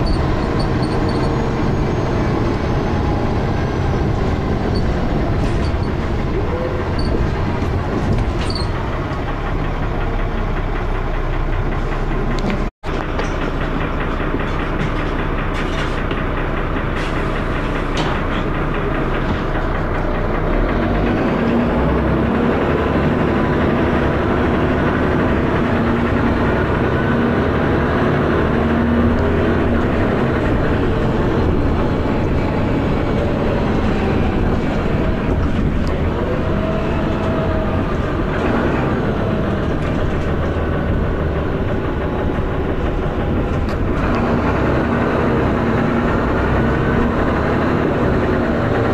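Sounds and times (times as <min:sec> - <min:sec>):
bus diesel engine thrashing: 0:00.0 - 0:48.9.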